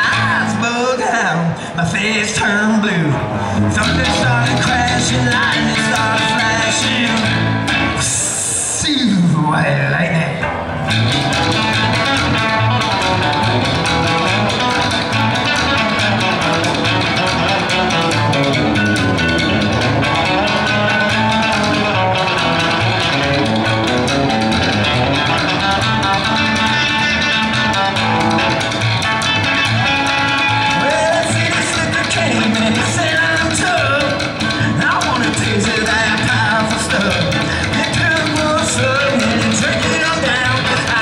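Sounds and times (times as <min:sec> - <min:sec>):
steady bass line: 0:00.0 - 0:01.2, 0:02.7 - 0:08.5, 0:10.4 - 0:41.0
lead guitar: 0:00.0 - 0:41.0.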